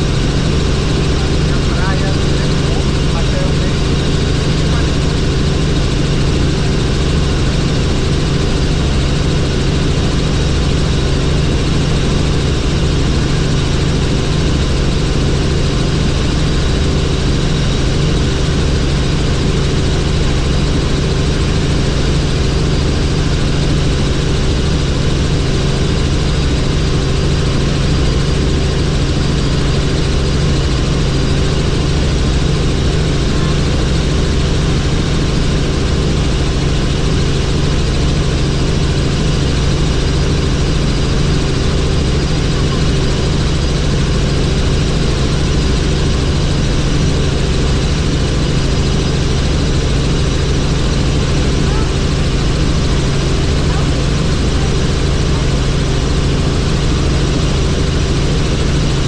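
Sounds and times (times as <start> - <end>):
helicopter engine and rotor drone: 0.0 - 59.0
high whine: 0.0 - 59.0.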